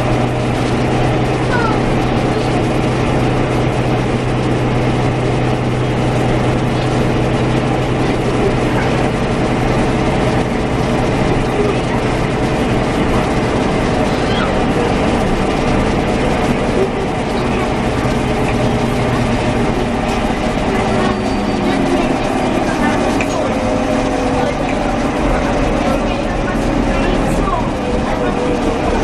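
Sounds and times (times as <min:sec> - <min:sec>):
bus engine hum: 0:00.0 - 0:29.0
road noise: 0:00.0 - 0:29.0.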